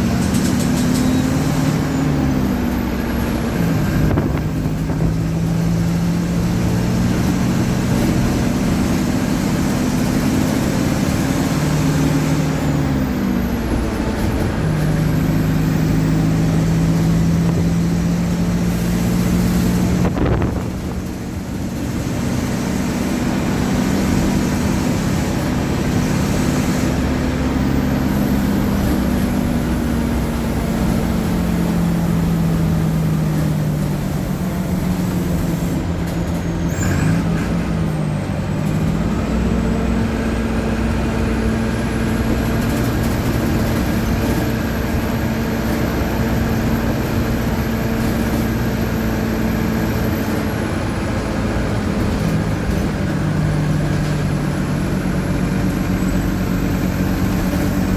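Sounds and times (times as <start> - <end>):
bus diesel engine running: 0.0 - 57.9.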